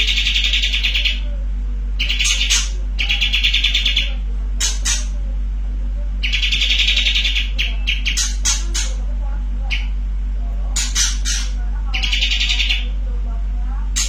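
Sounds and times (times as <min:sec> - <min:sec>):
bird singing buzzy trills: 0:00.0 - 0:05.2, 0:06.1 - 0:13.0
low electrical hum: 0:00.0 - 0:14.0.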